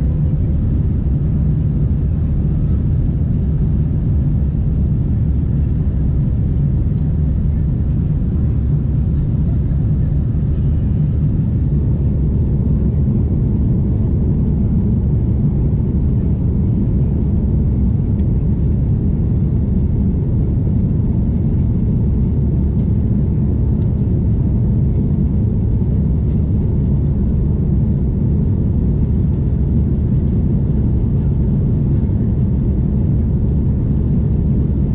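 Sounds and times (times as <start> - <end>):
jet airliner cabin rumble: 0.0 - 34.9.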